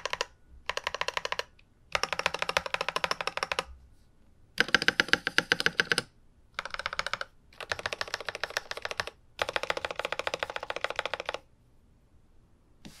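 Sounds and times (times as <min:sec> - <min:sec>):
mechanical keyboard typing: 0:00.0 - 0:03.7, 0:04.6 - 0:11.5.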